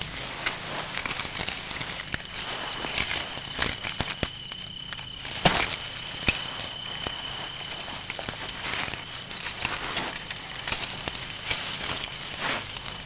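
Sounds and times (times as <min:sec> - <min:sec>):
lizards scuffling on sand: 0:00.0 - 0:13.0
thin steady high tone: 0:00.0 - 0:13.0.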